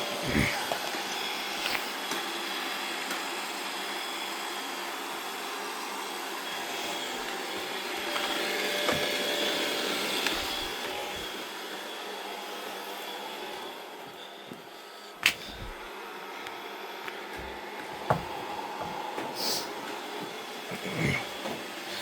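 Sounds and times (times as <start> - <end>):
robot vacuum cleaner whirring: 0.0 - 22.0.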